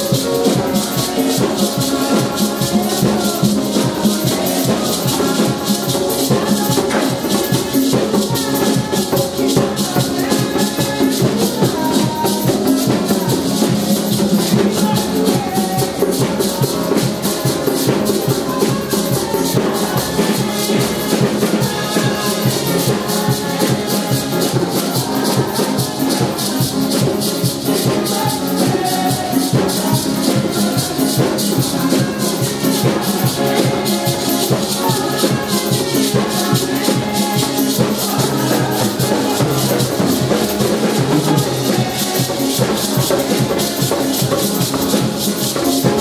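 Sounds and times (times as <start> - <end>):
drum kit: 0.0 - 46.0
group of singers: 0.0 - 46.0
hand drums: 0.0 - 46.0
piano: 0.0 - 46.0.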